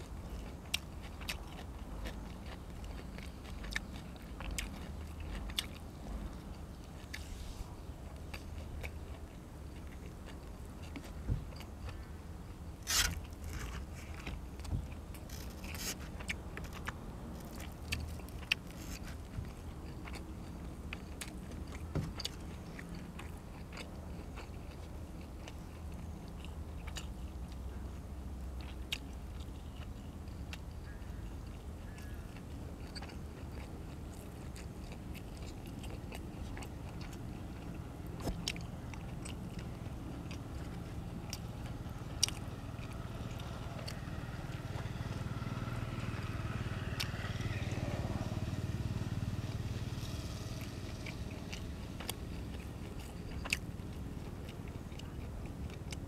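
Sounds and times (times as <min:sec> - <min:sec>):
low steady rumble: 0:00.0 - 0:56.0
person chewing and crunching: 0:00.0 - 0:56.0.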